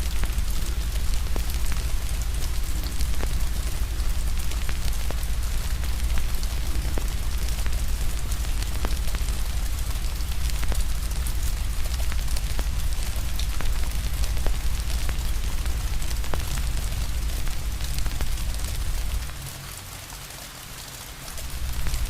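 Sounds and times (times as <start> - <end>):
deep rumble: 0.0 - 19.4, 21.4 - 22.0
fire crackling: 0.0 - 19.5, 21.3 - 22.0
rain hiss: 0.0 - 22.0.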